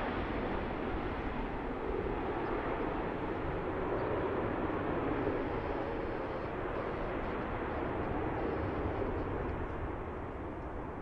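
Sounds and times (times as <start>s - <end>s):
jet engines at takeoff thrust: 0.0s - 11.0s.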